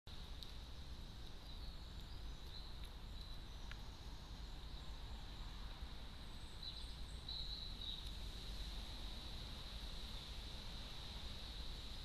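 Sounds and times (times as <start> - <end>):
low outdoor rumble: 0.1 - 12.0
small birds chirping: 0.1 - 12.0.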